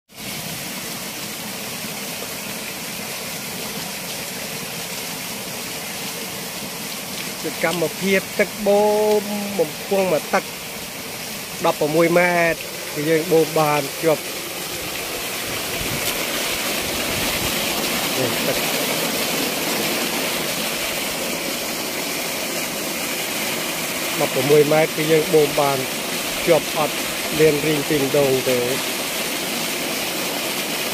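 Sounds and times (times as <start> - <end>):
water gushing into a concrete tank: 0.1 - 30.9.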